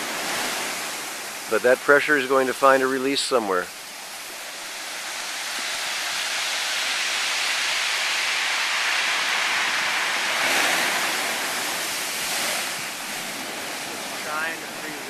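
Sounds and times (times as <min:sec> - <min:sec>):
surf rushing hiss: 0:00.0 - 0:15.0.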